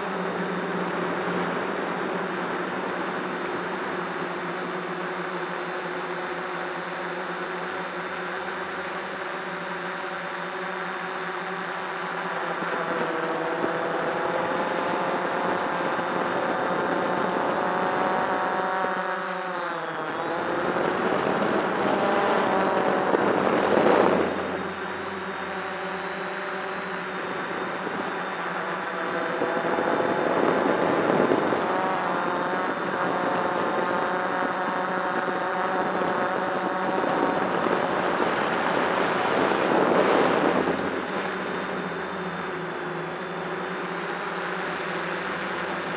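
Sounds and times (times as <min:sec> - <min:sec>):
drone motors and propellers whining: 0:00.0 - 0:45.9
wind noise on microphone: 0:00.0 - 0:45.9.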